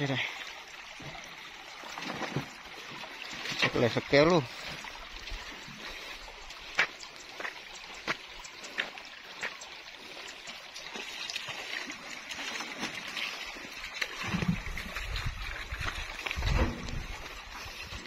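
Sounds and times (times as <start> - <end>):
creek water trickling: 0.0 - 18.0.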